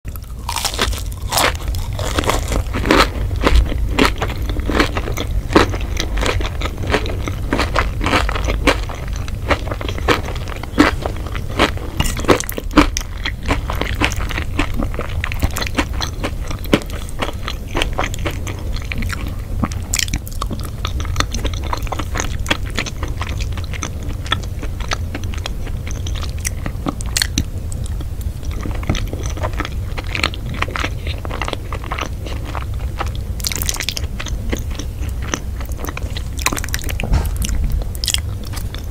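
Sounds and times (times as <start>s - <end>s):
crunching crisp food: 0.1s - 38.9s
low steady hum: 0.1s - 38.9s.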